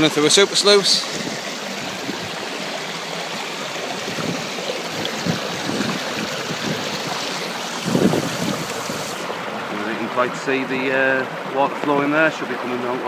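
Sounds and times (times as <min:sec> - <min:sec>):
stream water rushing over rocks: 0:00.0 - 0:13.0.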